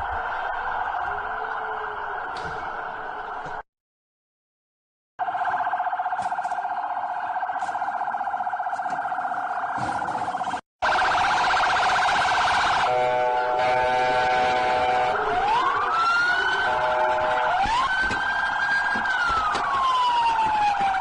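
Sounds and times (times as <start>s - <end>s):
police siren: 0.0s - 3.6s, 5.2s - 21.0s.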